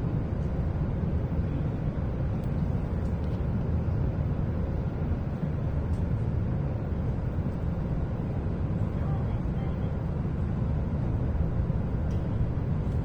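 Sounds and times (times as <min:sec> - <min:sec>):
train cabin low rumble: 0:00.0 - 0:13.0.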